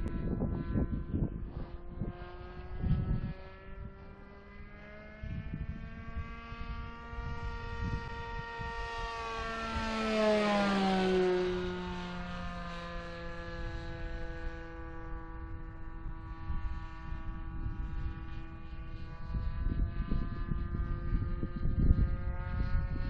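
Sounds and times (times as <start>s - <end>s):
model plane motor buzzing: 0.0s - 23.0s
wind buffeting microphone: 0.0s - 23.0s.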